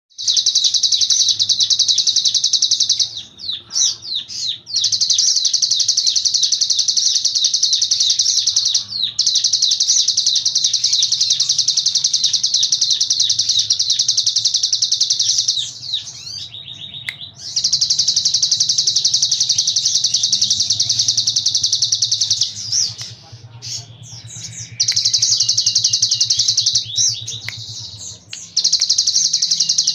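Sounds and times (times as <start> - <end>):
bird chirps: 0.1 - 29.9.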